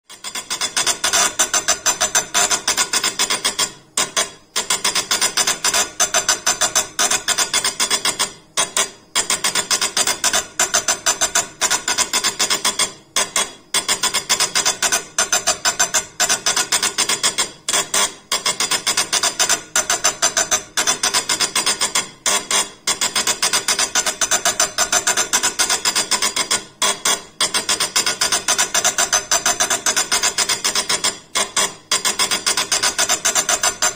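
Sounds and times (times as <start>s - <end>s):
engraving machine tapping stone: 0.2s - 33.9s.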